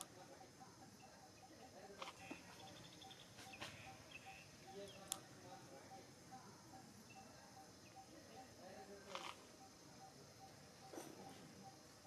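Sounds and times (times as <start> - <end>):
quiet chirping: 0.0 - 12.0.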